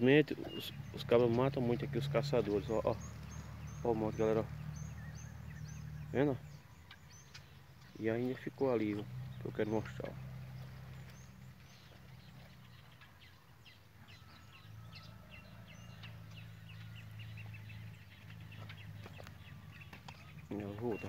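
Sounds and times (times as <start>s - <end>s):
distant birds chirping: 0.0s - 21.0s.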